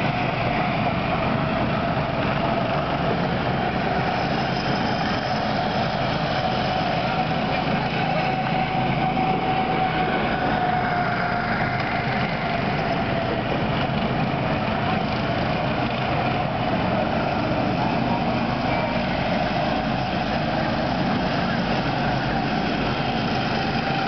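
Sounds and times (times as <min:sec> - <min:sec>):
go-kart engines whining: 0:00.0 - 0:24.0.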